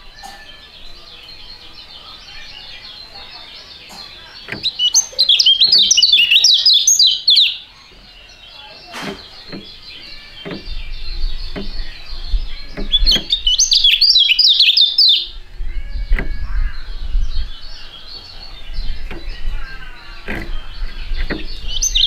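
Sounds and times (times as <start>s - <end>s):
bird chattering song: 0.0s - 22.0s.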